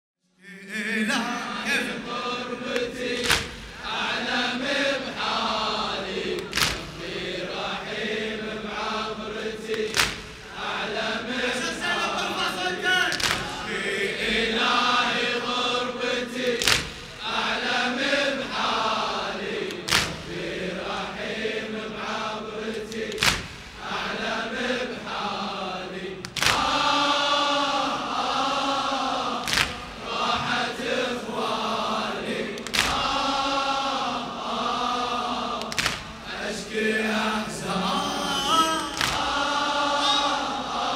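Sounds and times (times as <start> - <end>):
men chanting in unison: 0.4 - 40.9.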